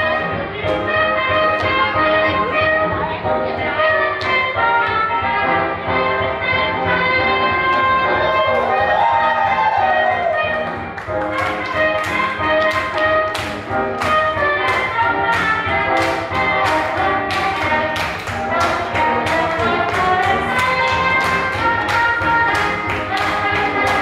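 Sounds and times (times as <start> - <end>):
swing jazz with horns: 0.0 - 24.0.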